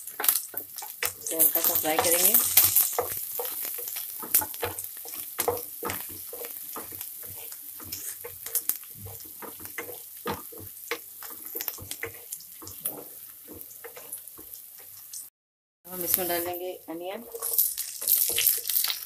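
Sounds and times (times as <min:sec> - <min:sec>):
food sizzling in hot oil: 0:00.0 - 0:15.3, 0:15.9 - 0:19.0
wooden spatula scraping a pan: 0:00.1 - 0:15.0, 0:16.0 - 0:19.0.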